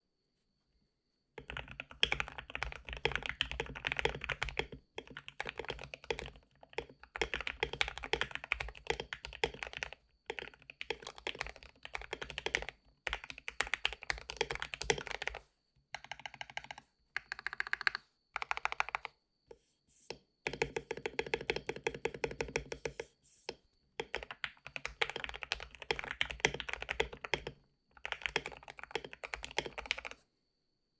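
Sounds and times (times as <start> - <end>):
mechanical keyboard typing: 1.4 - 15.4, 16.0 - 19.1, 20.5 - 23.0, 24.0 - 30.2.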